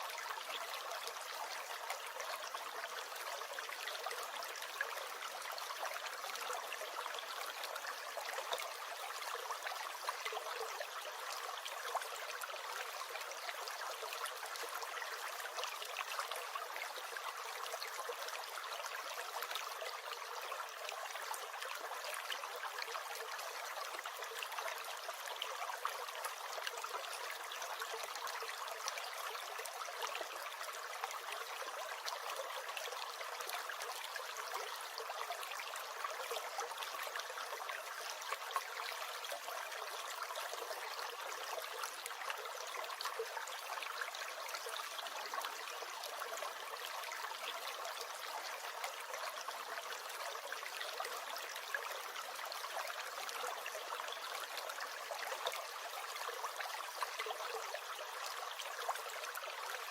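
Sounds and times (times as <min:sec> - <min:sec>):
stream gurgling and trickling: 0:00.0 - 0:59.9.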